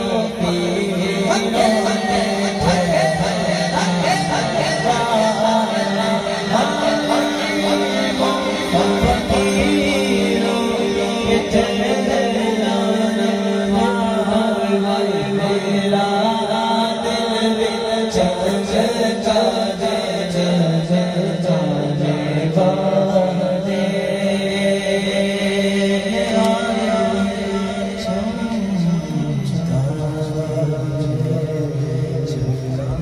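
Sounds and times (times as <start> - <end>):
men singing through microphones: 0.0 - 33.0.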